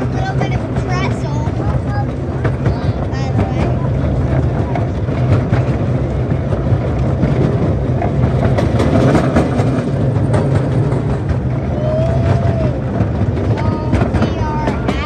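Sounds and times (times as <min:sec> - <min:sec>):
miniature train rumbling on track: 0:00.0 - 0:15.0
wheels clicking on rails: 0:00.0 - 0:15.0.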